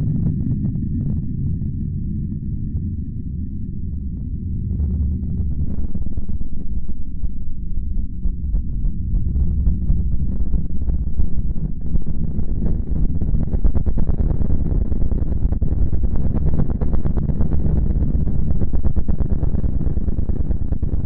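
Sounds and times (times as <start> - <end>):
deep steady rumble: 0.0 - 21.0
dense fast crackle: 0.0 - 21.0.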